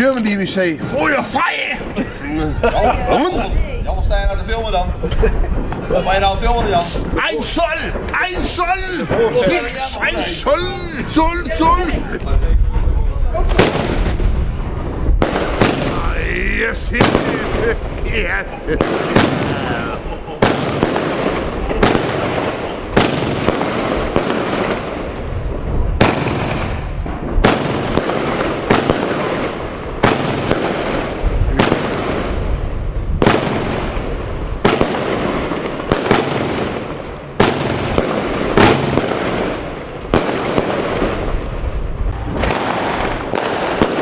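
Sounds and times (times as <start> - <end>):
firework crackling: 0.0 - 44.0
firework bangs: 3.2 - 44.0.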